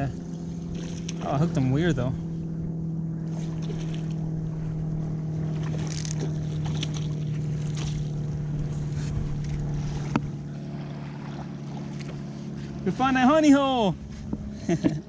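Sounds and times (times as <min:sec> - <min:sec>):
water splashes: 0:00.0 - 0:02.0, 0:03.2 - 0:14.5
motorboat engine droning: 0:00.0 - 0:15.0.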